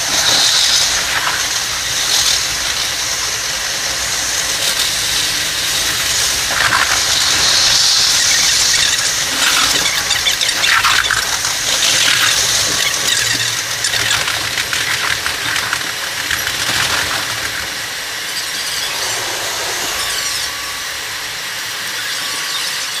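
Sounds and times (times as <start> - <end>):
sped-up train rushing on rails: 0.0 - 13.2, 15.9 - 23.0.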